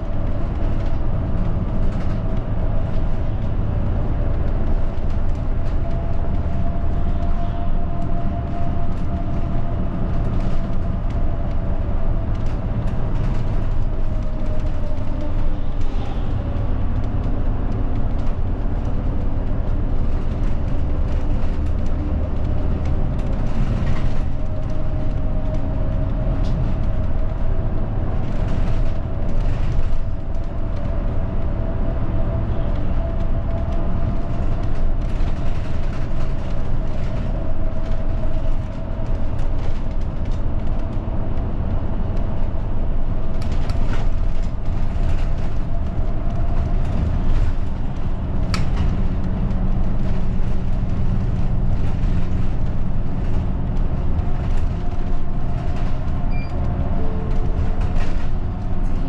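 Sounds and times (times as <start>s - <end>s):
bus engine and road rumble: 0.0s - 59.0s
small rattles and clicks: 0.2s - 3.5s, 4.2s - 27.4s, 28.1s - 31.0s, 32.3s - 56.2s.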